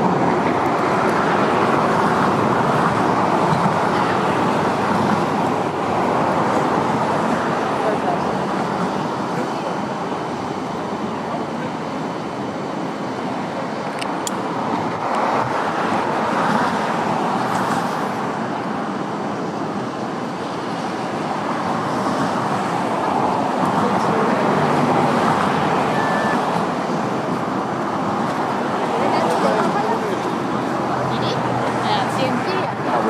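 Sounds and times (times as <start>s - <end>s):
road traffic noise: 0.0s - 33.0s
vehicles passing close by: 0.0s - 33.0s.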